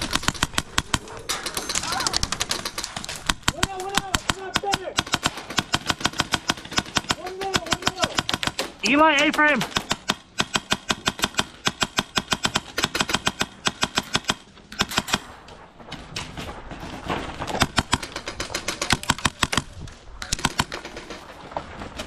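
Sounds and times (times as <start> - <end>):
airsoft guns firing: 0.0 - 15.4, 17.5 - 21.2.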